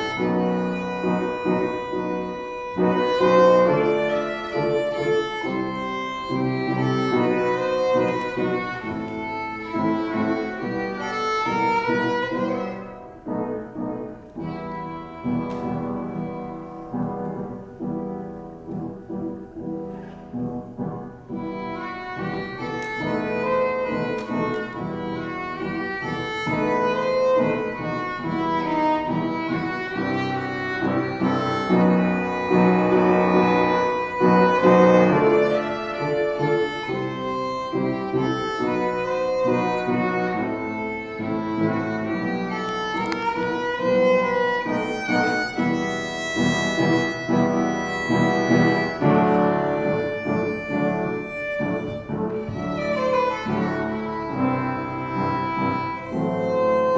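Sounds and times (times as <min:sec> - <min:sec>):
violin bowed melody: 0:00.0 - 0:56.9.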